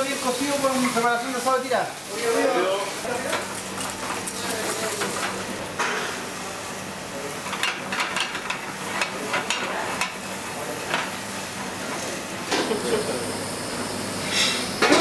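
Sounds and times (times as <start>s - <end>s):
food sizzling in pans: 0.0s - 15.0s.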